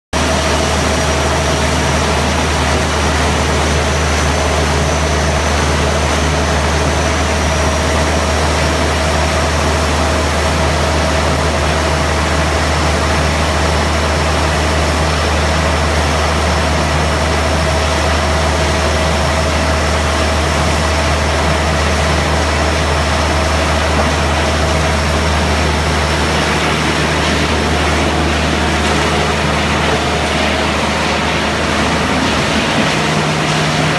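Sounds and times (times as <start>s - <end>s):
shredding machinery motors droning: 0.2s - 33.9s.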